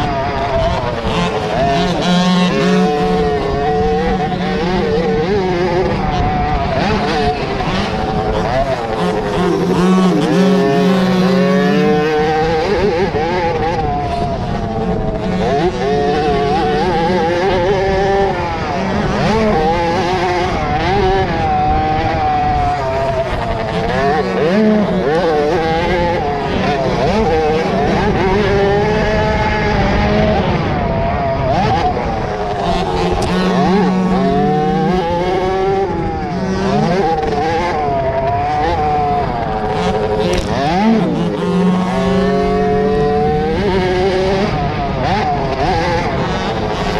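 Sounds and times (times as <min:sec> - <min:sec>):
minibike engines revving: 0:00.0 - 0:46.9.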